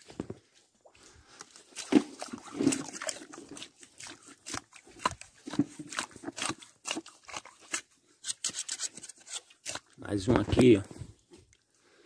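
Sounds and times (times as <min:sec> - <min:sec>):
mud crackling and squelching: 0:00.0 - 0:12.0.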